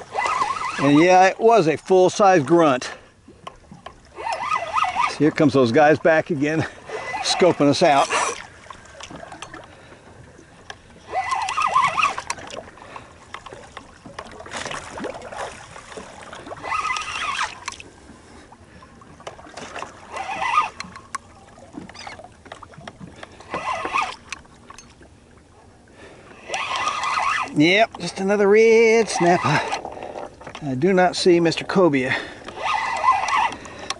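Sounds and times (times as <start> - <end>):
water splashing against boat: 0.0 - 33.9.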